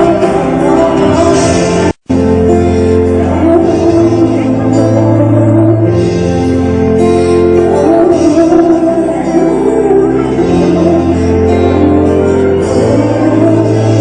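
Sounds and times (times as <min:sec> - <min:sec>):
long held bass notes: 0:00.0 - 0:14.0
sustained keyboard chords: 0:00.0 - 0:14.0.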